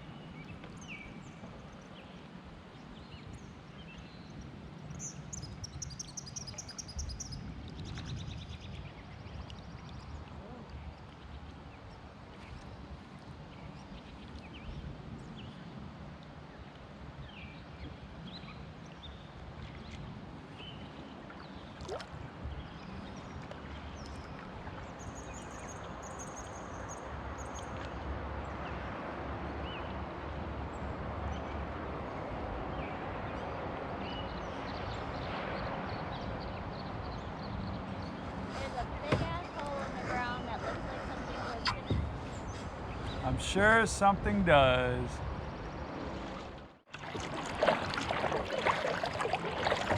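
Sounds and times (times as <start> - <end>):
water lapping around kayak: 0.0 - 49.9.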